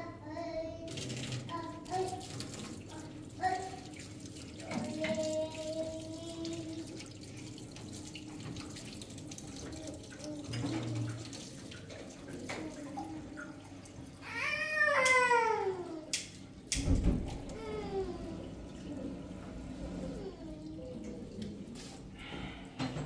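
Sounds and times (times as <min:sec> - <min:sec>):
running water: 0:00.8 - 0:23.0.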